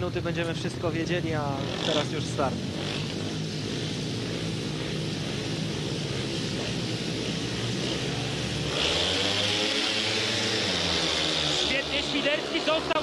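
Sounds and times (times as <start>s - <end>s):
motorcycles revving: 0.0s - 13.0s.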